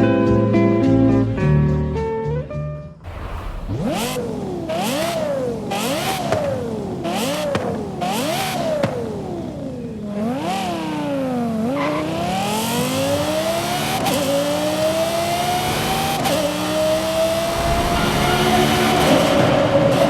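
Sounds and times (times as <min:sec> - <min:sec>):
sports car engine revving: 0:03.0 - 0:20.0.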